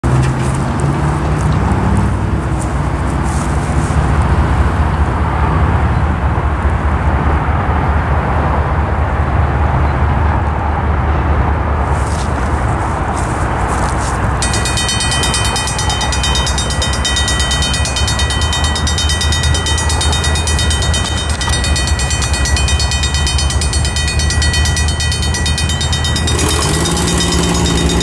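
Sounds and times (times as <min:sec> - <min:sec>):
cars driving past: 0:00.0 - 0:28.0
low engine rumble: 0:00.0 - 0:28.0.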